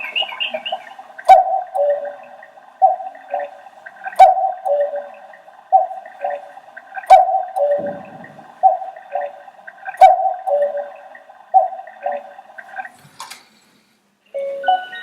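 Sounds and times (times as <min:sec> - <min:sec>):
electronic cuckoo clock call: 0:00.0 - 0:08.0, 0:08.6 - 0:12.4, 0:14.4 - 0:15.0.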